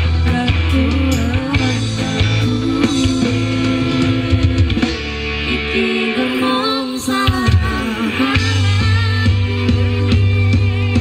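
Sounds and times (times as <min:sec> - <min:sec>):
bass-heavy music through speaker: 0:00.0 - 0:11.0.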